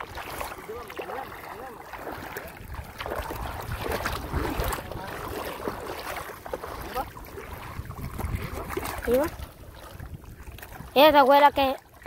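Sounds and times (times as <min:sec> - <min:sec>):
feet splashing through shallow water: 0:00.0 - 0:12.0
wind rumbling on microphone: 0:00.0 - 0:12.0.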